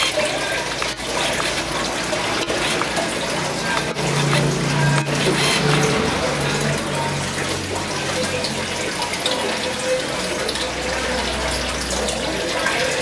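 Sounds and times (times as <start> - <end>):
aquarium water bubbling: 0.0 - 13.0.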